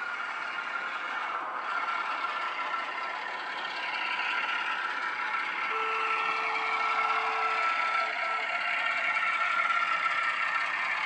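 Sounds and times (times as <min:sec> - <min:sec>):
diesel engine through small speaker: 0:00.0 - 0:11.0
steady whine: 0:00.0 - 0:11.0.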